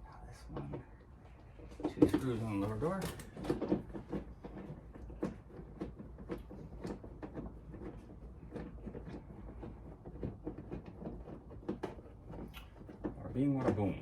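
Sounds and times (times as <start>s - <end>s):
hands clicking and tapping on car trim: 1.6s - 14.0s.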